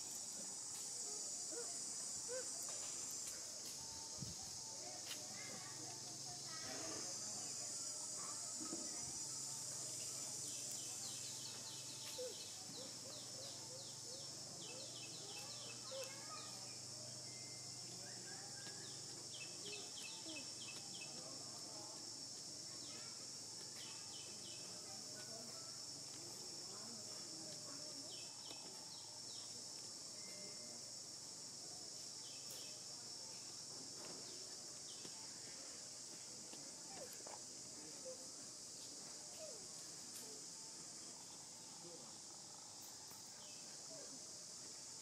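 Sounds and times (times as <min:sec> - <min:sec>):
insect chirps: 0:00.0 - 0:45.0.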